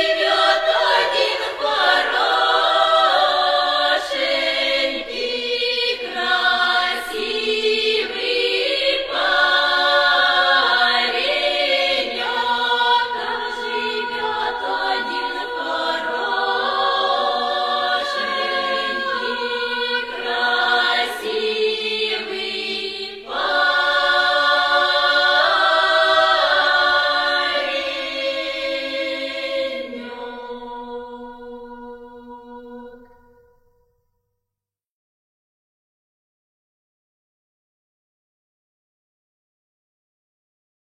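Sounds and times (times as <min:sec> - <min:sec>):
voices singing in harmony: 0:00.0 - 0:33.5.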